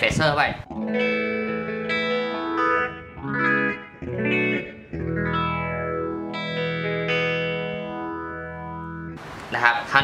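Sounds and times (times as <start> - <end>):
phased electric guitar chords: 0.7 - 9.2.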